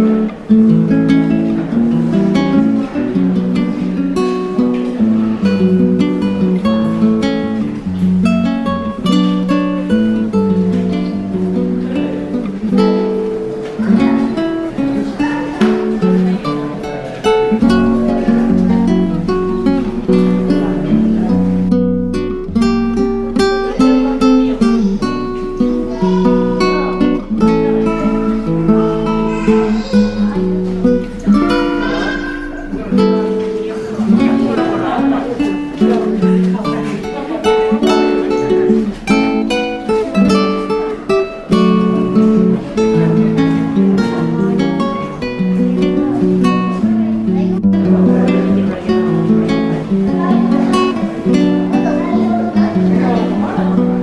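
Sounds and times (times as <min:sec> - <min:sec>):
acoustic guitar melody: 0:00.0 - 0:54.0.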